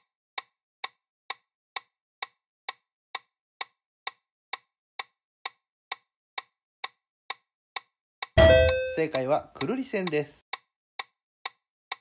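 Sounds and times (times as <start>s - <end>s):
clock-like timer ticks: 0.4s - 12.0s.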